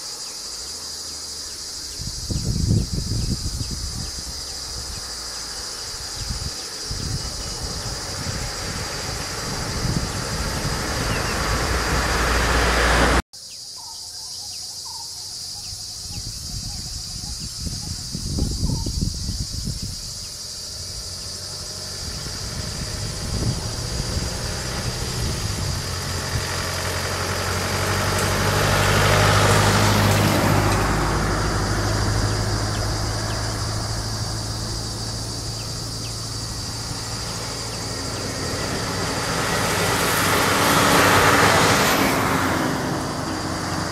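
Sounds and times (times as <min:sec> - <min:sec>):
vehicles passing: 0:00.0 - 0:13.2, 0:19.1 - 0:43.9
insects droning: 0:00.0 - 0:43.9.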